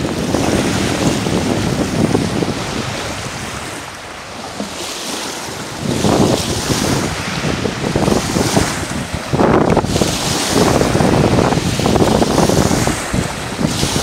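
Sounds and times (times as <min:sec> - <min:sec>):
waves breaking on pebble beach: 0:00.0 - 0:14.0
wind buffeting microphone: 0:00.0 - 0:14.0.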